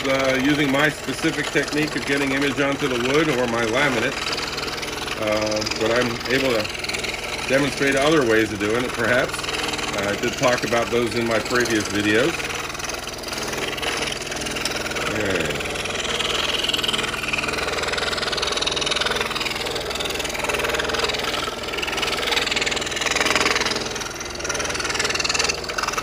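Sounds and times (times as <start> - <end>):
scroll saw cutting wood: 0.0 - 26.0.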